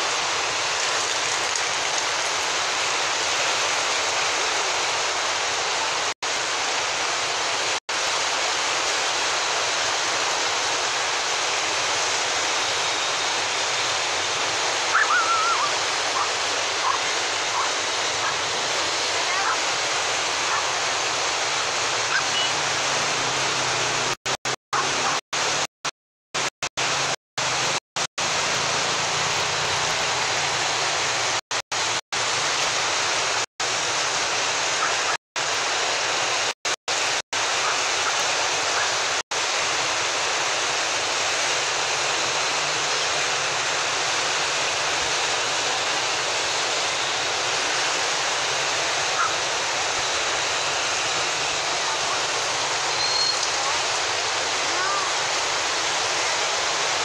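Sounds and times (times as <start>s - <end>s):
floodwater rushing: 0.0s - 24.2s, 26.4s - 57.0s.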